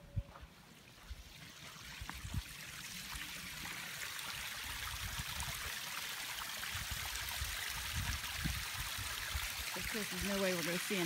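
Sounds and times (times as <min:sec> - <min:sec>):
waterfall trickling: 0:00.8 - 0:11.0.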